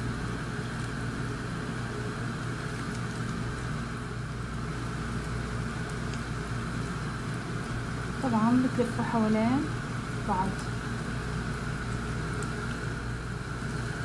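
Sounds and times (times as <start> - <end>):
dough frying in hot oil: 0.0 - 14.0
low mechanical hum: 0.0 - 14.0.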